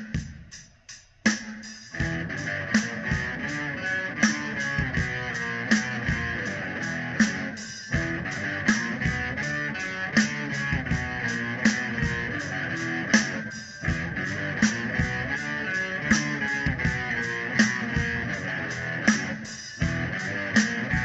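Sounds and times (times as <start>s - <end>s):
drum kit beat: 0.0s - 21.0s
strummed guitar: 2.0s - 21.0s.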